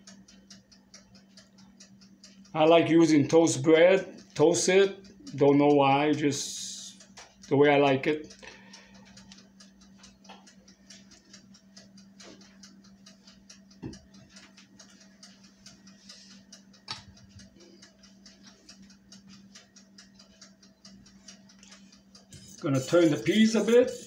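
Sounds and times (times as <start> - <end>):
mechanical dial timer ticking: 0.0 - 24.0.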